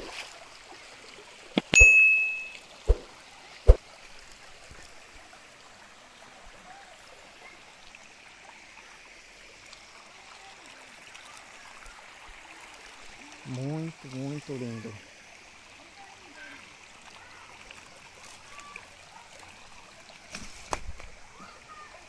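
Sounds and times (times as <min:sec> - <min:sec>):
creek water running over rocks: 0:00.0 - 0:22.0.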